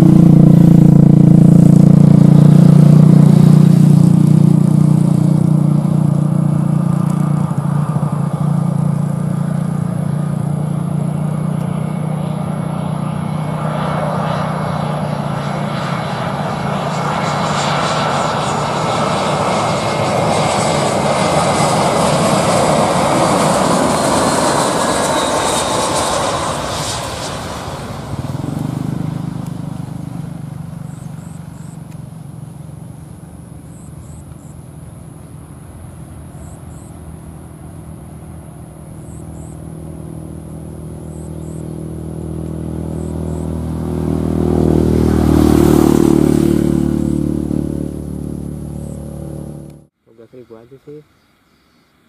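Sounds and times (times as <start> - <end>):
jet engines with falling whine: 0.0 - 51.0.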